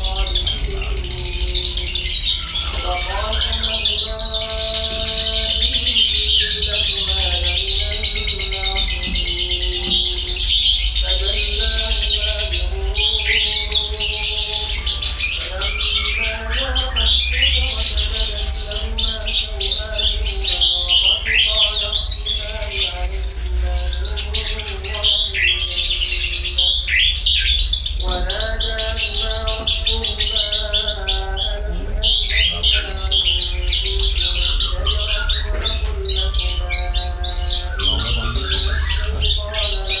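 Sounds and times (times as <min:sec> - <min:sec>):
bird chirping and trilling: 0:00.0 - 0:40.0.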